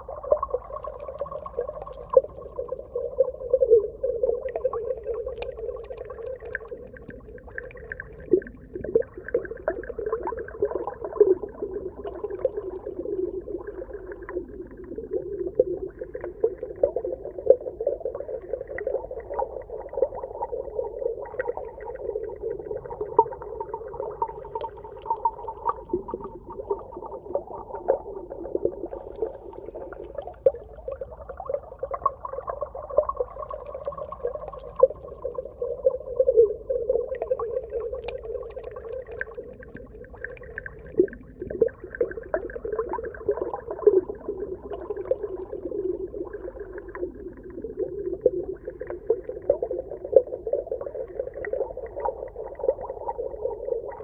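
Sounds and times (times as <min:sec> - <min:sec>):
low underwater hum: 0:00.0 - 0:54.0.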